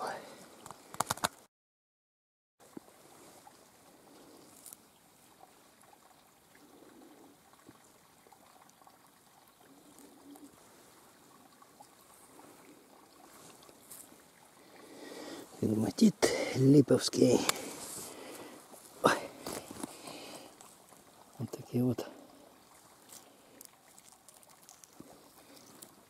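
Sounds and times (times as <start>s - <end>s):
trickling water: 2.6s - 26.0s.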